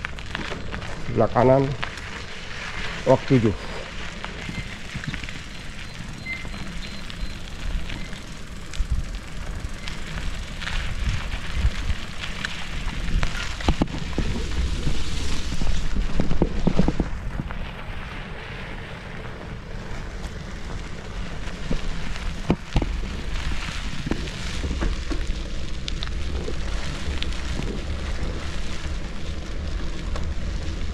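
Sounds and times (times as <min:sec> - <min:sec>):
bicycle clicks and rattles: 0:00.0 - 0:30.9
bicycle tyre rumble: 0:00.0 - 0:30.9
wind buffeting microphone: 0:02.6 - 0:30.9.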